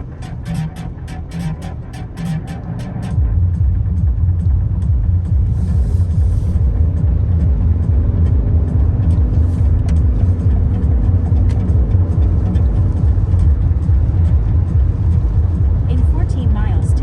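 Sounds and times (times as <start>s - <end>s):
car rumbling on the move: 0.0s - 17.0s.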